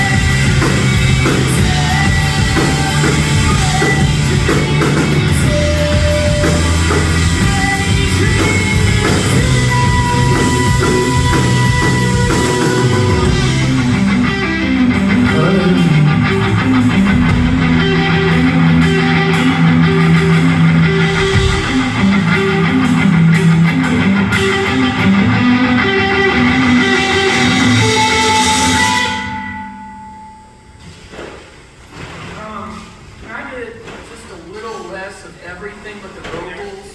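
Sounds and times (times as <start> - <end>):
drums: 0.0 - 29.6
rock band playing: 0.0 - 30.1.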